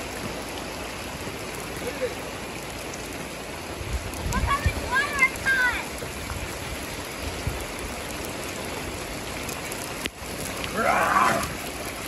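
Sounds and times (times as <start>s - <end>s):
rain falling on pool and concrete: 0.0s - 12.0s.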